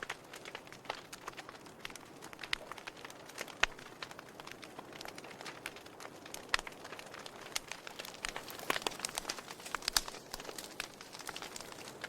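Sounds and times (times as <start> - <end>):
fire crackles and pops: 0.0 - 12.0
wood fire hissing: 0.0 - 12.0.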